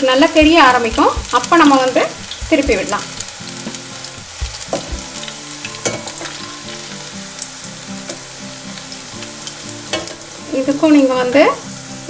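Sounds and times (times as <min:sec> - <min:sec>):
deep-frying oil sizzling: 0:00.0 - 0:12.0.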